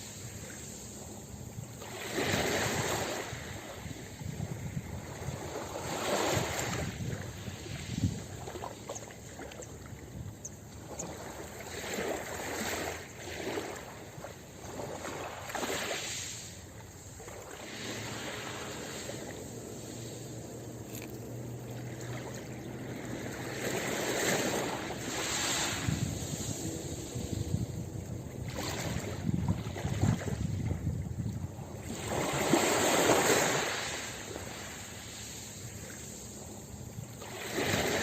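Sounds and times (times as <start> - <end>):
ocean waves washing onto beach: 0.0 - 38.0.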